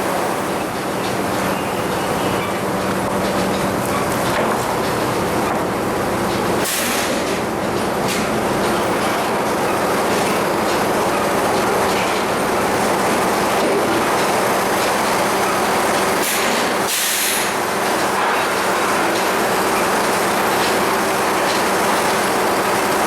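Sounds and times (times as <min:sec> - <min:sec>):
sawmill machinery humming: 0:00.0 - 0:23.0.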